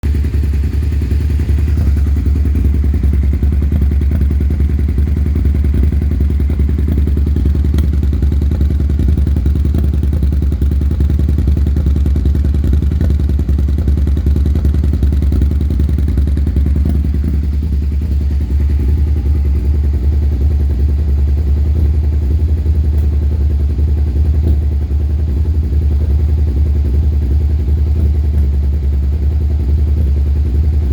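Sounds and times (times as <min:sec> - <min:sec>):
motorcycle engine idling roughly: 0:00.0 - 0:30.9.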